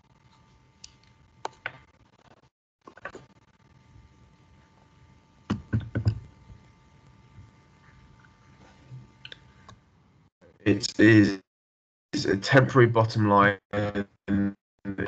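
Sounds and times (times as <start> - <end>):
faint steady hiss and hum: 0.0 - 11.4, 12.2 - 15.0.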